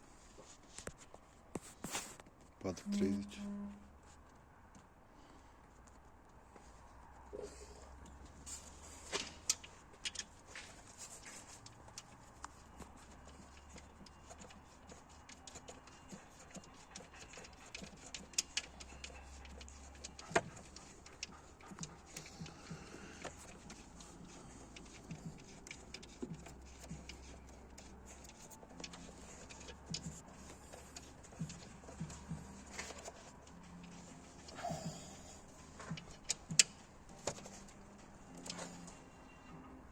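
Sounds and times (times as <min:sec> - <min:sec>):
faint low hum: 0:02.4 - 0:39.9.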